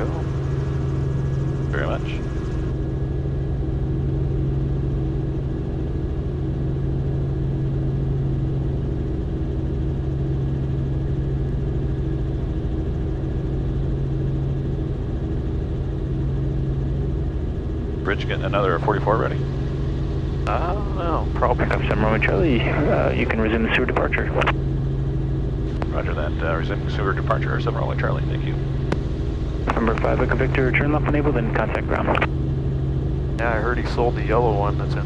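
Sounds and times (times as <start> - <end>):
helicopter engine and rotor drone: 0.0 - 35.0.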